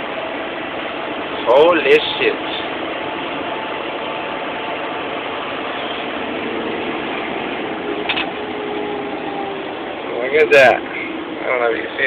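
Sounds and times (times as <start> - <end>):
truck engine drone: 0.0 - 12.0.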